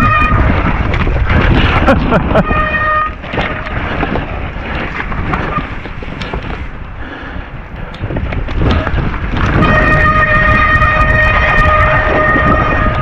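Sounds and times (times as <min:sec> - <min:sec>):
bike rattling and knocking: 0:00.0 - 0:06.8, 0:07.8 - 0:13.0
wind buffeting microphone: 0:00.0 - 0:13.0.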